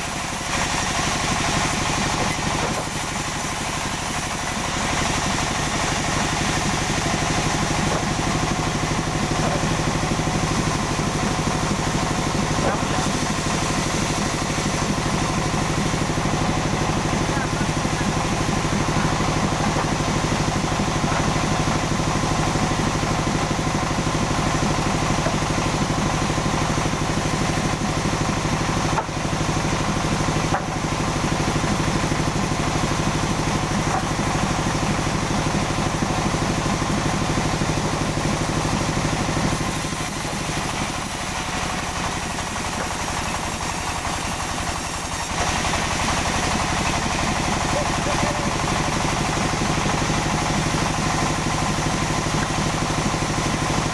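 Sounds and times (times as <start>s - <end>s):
sawmill machinery drone: 0.0s - 53.9s.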